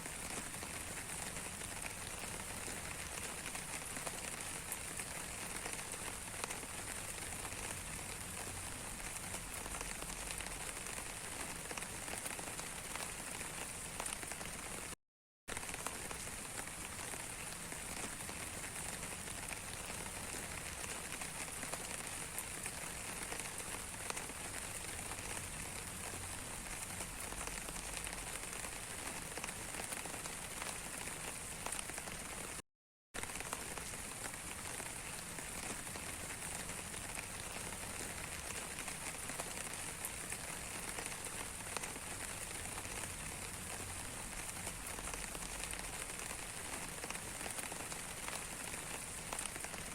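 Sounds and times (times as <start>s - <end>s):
steady rain falling: 0.0s - 32.6s, 33.2s - 49.9s.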